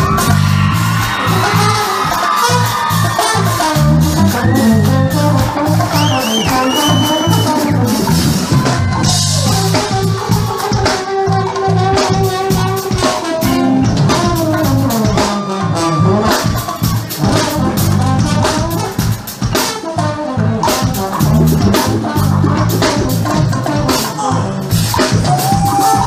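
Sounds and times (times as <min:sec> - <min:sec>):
drum kit beat: 0:00.0 - 0:26.0.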